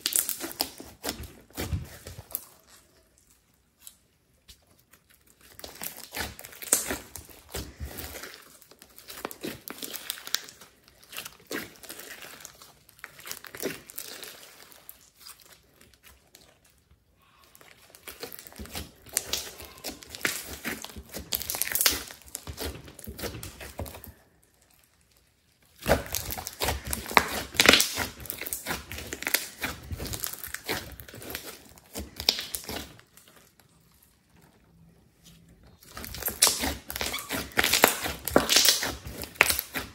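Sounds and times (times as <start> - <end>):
slime crackling and popping: 0.0 - 35.0, 35.7 - 39.9.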